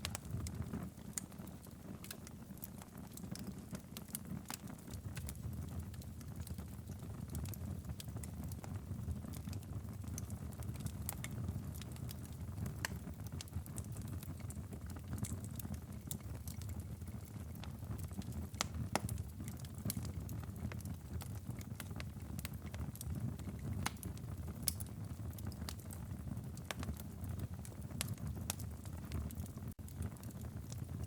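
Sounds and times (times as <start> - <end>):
low rumble of fire: 0.0 - 31.0
wood fire crackling and popping: 0.0 - 31.0.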